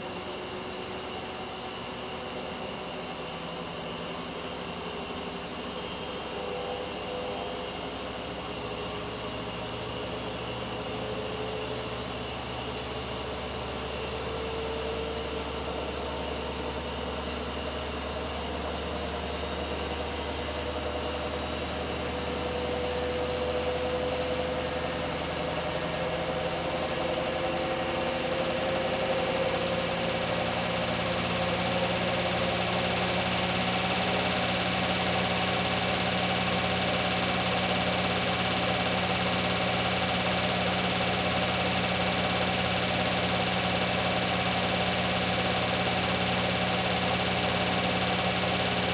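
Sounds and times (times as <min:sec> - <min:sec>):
washing machine spinning: 0:00.9 - 0:48.9.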